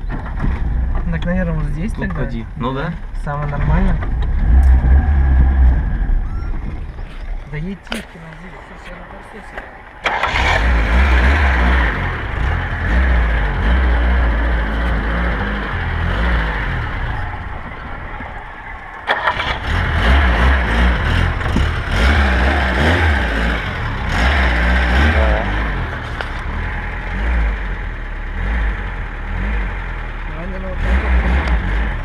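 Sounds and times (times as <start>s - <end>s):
car engine under throttle: 0.0s - 32.0s.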